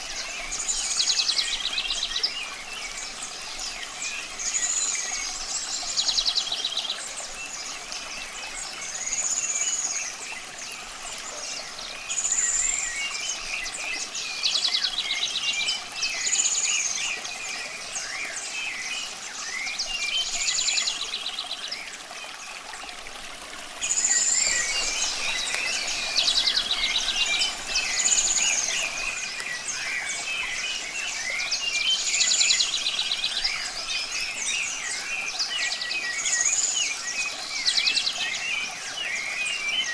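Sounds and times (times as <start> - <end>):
birds singing and calling: 0.0 - 39.9
running water: 0.0 - 39.9.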